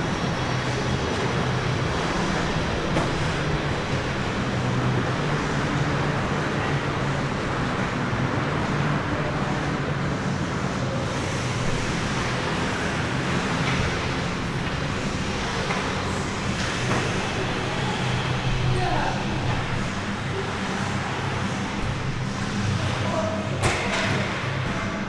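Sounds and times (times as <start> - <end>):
crowd and rink noise: 0.0 - 25.0.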